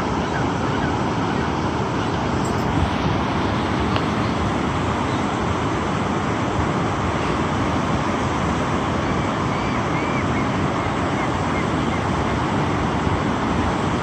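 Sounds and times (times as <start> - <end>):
river rapids roaring: 0.0 - 14.0.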